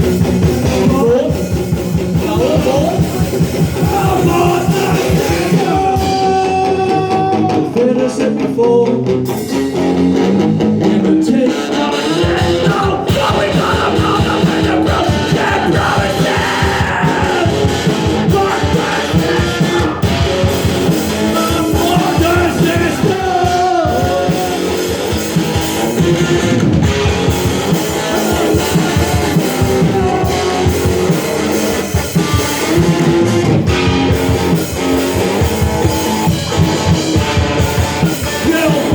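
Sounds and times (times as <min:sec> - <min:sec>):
rock song with singing: 0:00.0 - 0:38.9.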